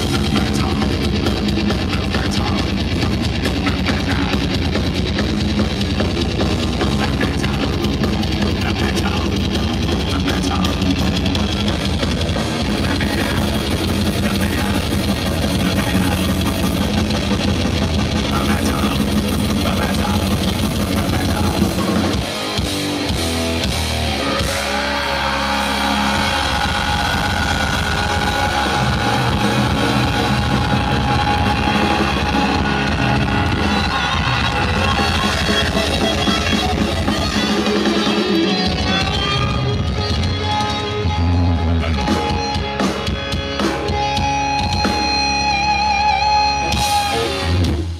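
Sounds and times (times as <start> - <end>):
heavy metal band playing live: 0.0 - 47.9.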